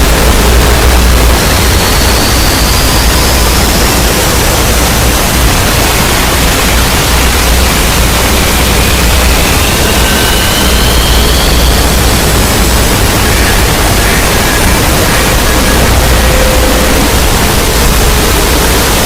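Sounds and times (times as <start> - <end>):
low hum: 0.0 - 19.0
static-like hiss: 0.0 - 19.0.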